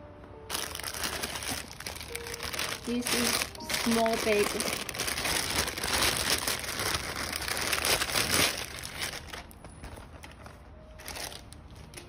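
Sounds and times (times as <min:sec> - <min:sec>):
plastic bag crinkling: 0:00.5 - 0:12.0.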